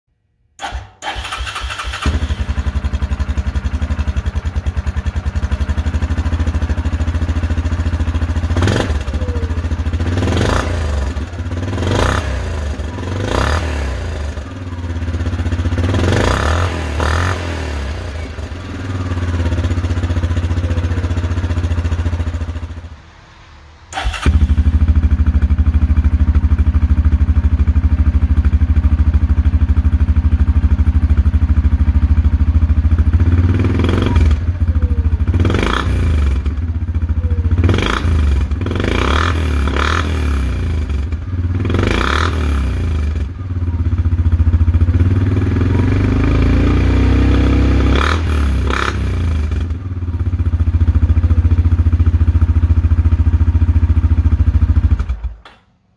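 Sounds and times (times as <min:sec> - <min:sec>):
atv engine revving: 0:00.6 - 0:22.8, 0:23.9 - 0:55.6
atv engine idling: 0:00.6 - 0:22.9, 0:23.9 - 0:55.6.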